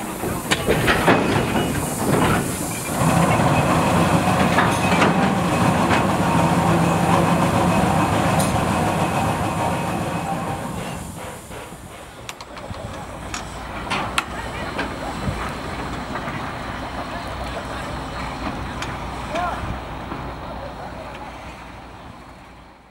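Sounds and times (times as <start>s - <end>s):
steam hissing: 0.0s - 22.3s
wheels rumbling on rail: 0.0s - 22.9s.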